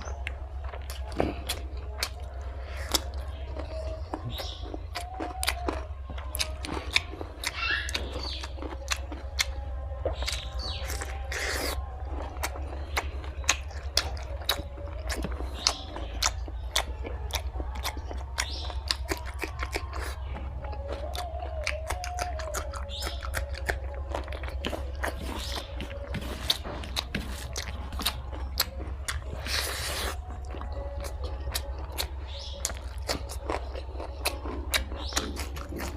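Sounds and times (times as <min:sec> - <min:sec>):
close-up chewing and biting: 0:00.0 - 0:35.9.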